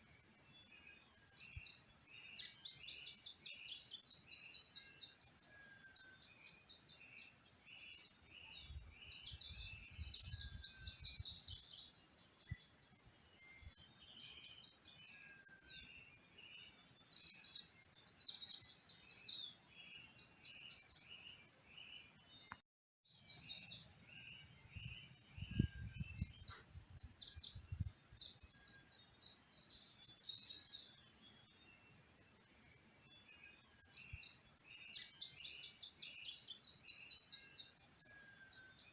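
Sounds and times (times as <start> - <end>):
whistled bird notes and chirps: 0.0 - 38.9.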